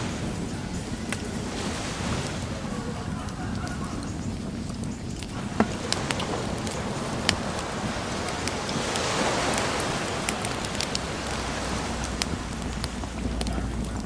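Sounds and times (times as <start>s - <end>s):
bonfire crackling and popping: 0.0s - 14.0s
sea waves: 0.0s - 14.0s.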